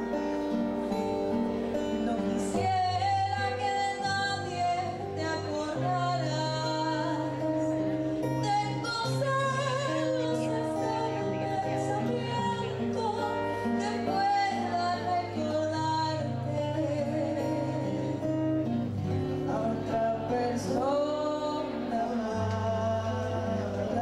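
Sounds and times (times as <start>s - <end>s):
strummed acoustic guitar: 0.0s - 24.0s
woman singing slow song: 1.8s - 24.0s.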